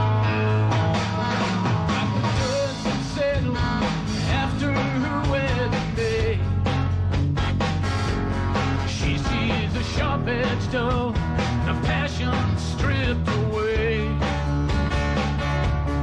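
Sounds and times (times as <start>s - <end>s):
live band music: 0.0s - 16.0s.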